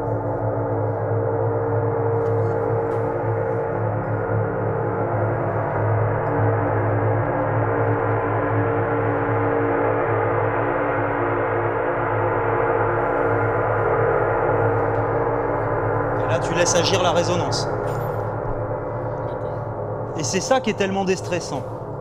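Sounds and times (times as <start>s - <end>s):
large gong sustained wash: 0.0s - 22.0s.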